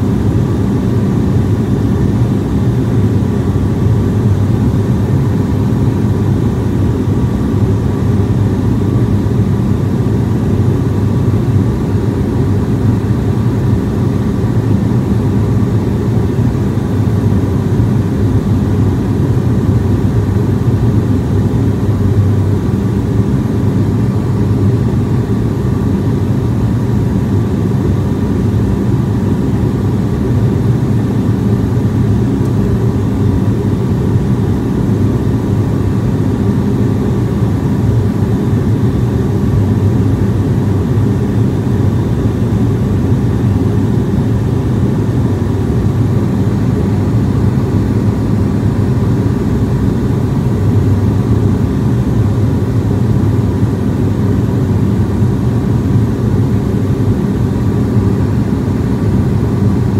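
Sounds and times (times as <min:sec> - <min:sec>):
airliner cabin drone: 0:00.0 - 0:59.9
faint steady whine: 0:00.0 - 0:59.9.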